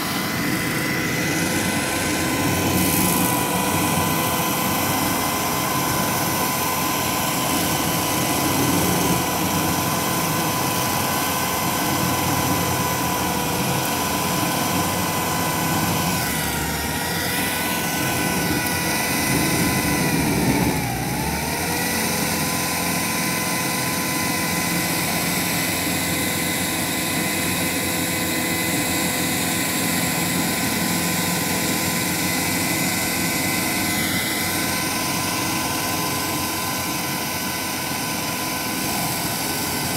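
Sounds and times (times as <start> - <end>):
stump grinder running: 0.0 - 39.9.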